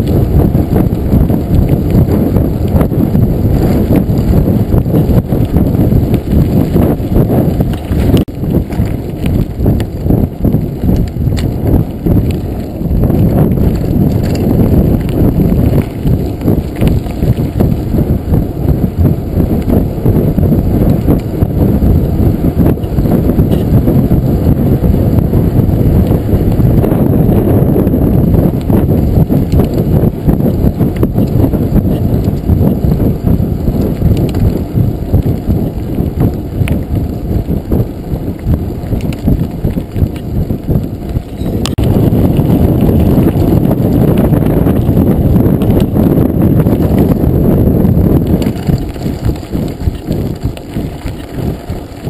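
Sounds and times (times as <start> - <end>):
bike knocking and rattling: 0.0 - 52.0
bike tyres rumbling on gravel: 0.0 - 52.0.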